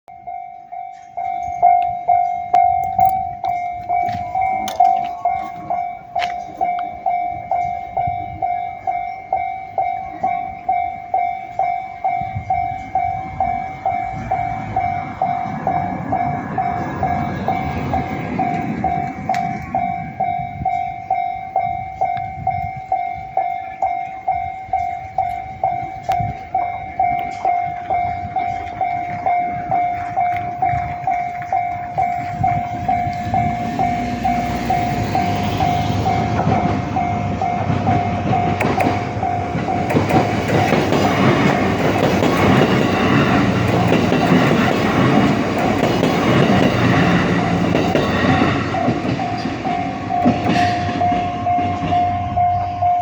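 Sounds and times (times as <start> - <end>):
level-crossing warning bell: 0.1 - 53.0
train rumbling past: 0.1 - 53.0.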